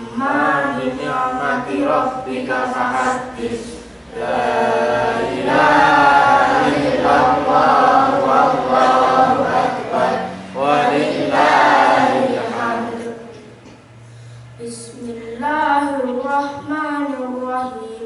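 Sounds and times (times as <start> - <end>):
boy chanting into a microphone: 0.0 - 13.6, 14.6 - 18.0.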